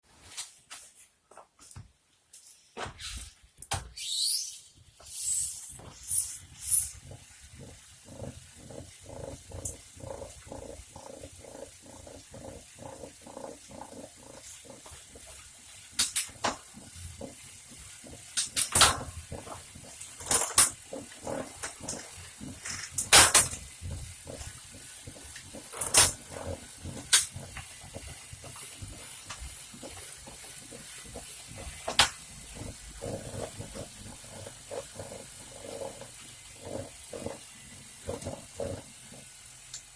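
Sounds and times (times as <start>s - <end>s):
bike trainer pulsing rumble: 5.8s - 39.9s.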